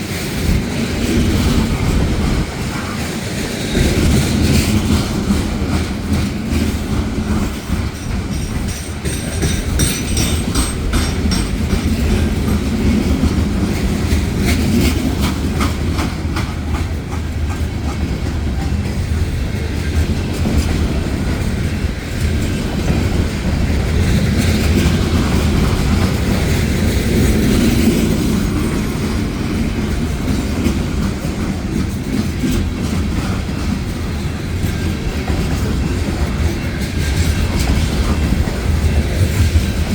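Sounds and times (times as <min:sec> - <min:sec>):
freight train rumbling past: 0:00.0 - 0:39.9
wheels clicking over rail joints: 0:01.0 - 0:39.9.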